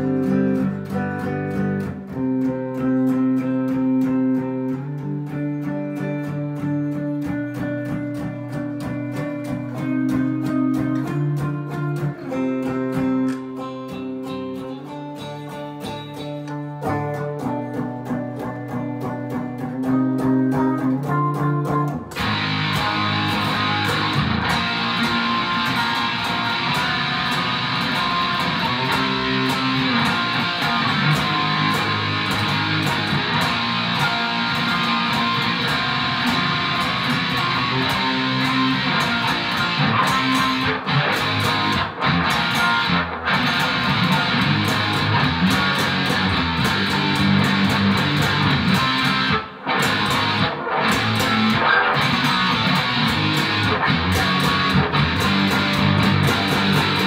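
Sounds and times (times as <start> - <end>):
electric guitar rock riffs: 0.0 - 57.0.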